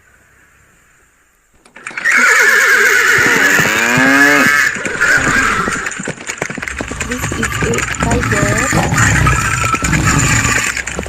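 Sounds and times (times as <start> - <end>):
horse whinnying: 1.7 - 11.0
horse snorting: 1.8 - 11.0.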